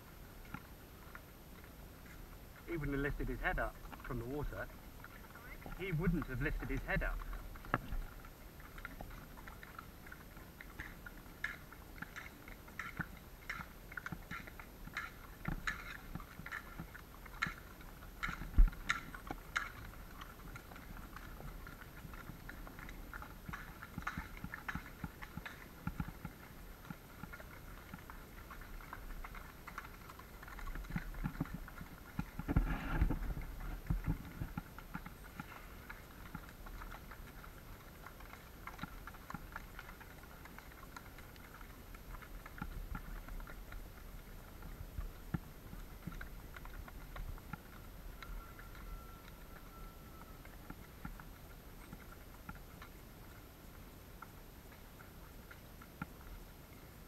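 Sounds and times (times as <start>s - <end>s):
horse crunching feed: 0.5s - 52.7s.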